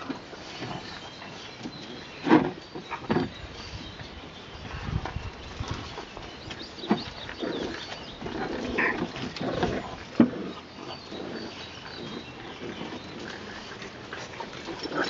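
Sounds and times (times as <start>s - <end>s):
puppies growling and scuffling: 0.0s - 15.0s.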